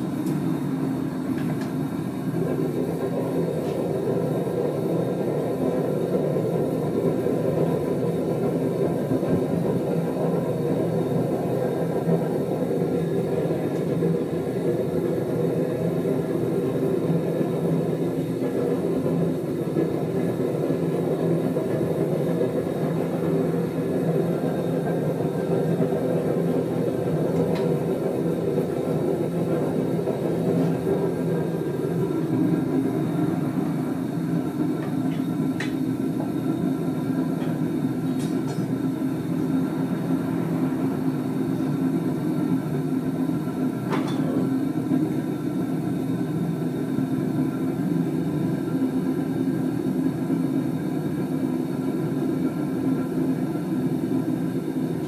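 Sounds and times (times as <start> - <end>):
furnace burner rumbling: 0.0 - 55.0.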